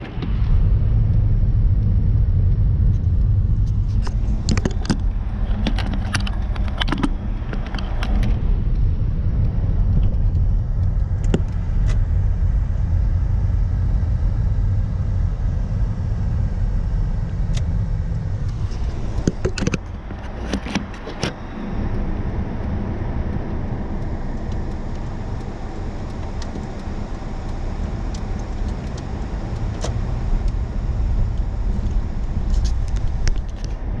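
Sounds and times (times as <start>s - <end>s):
sharp clicks and rattles: 0.0s - 15.2s, 17.0s - 34.0s
car engine low rumble: 0.0s - 34.0s.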